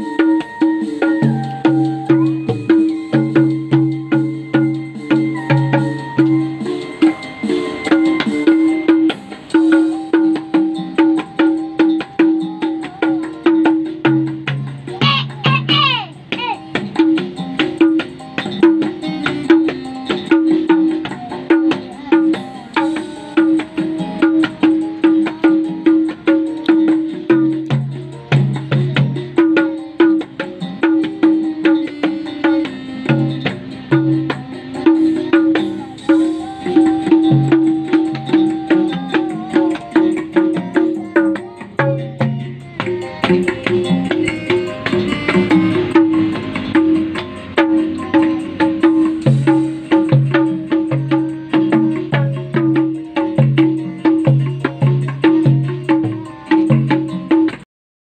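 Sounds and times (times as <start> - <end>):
child slapping toy drums: 0.0 - 57.6
dance music with hand drums: 0.0 - 57.6.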